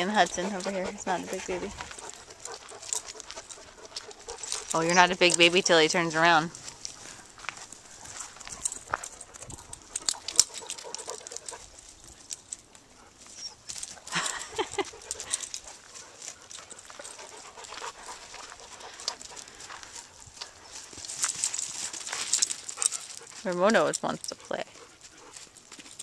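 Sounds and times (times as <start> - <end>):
dogs panting: 0.0 - 26.0
dogs scuffling on dirt and grass: 0.0 - 26.0.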